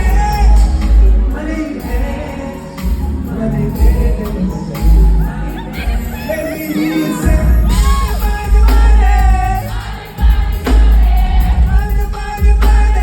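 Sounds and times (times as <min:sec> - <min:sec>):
crowd singing along: 0:00.0 - 0:13.0
loud band with heavy bass: 0:00.0 - 0:13.0
people singing: 0:00.0 - 0:13.0.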